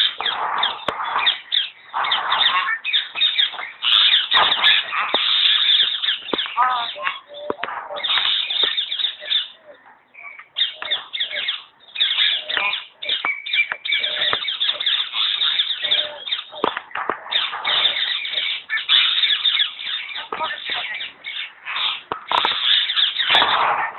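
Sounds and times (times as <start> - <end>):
bird whistle: 0.0 - 23.5
myna screeching and squawking: 0.0 - 23.9.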